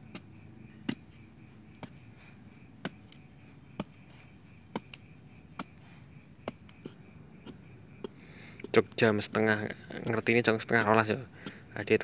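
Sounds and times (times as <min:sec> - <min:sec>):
hand tool striking soil: 0:00.0 - 0:12.0
insect chirping in rapid pulses: 0:00.0 - 0:12.0
night insects trilling: 0:00.0 - 0:12.0.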